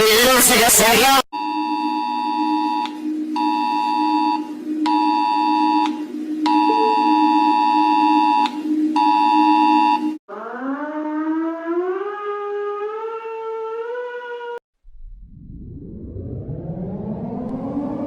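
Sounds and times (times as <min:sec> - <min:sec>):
emergency alert alarm tones: 0:01.4 - 0:14.6, 0:16.2 - 0:18.0
siren winding up: 0:01.5 - 0:14.6, 0:15.2 - 0:18.0.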